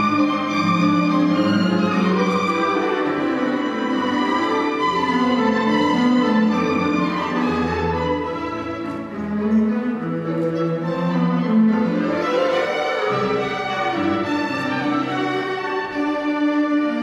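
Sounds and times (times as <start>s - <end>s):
classical orchestral music: 0.0s - 17.0s.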